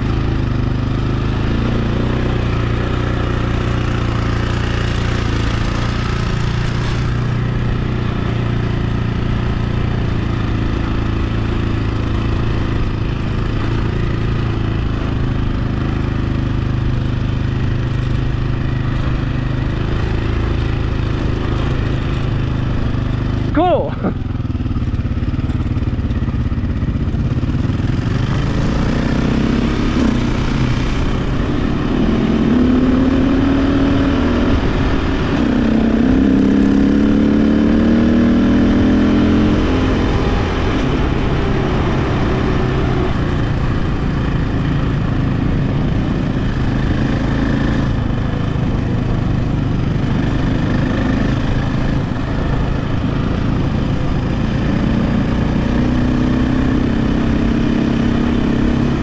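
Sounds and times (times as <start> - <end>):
dirt bike engine revving: 0.0 - 49.2.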